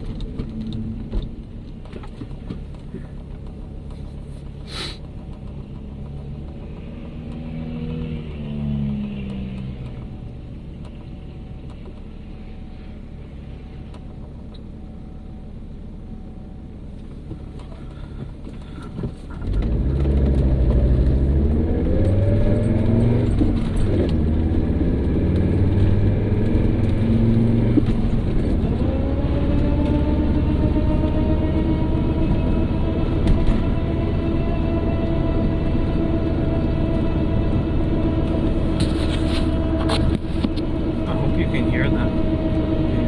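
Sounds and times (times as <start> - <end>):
car engine rumbling: 0.0 - 43.0
car whirring noise: 0.0 - 43.0.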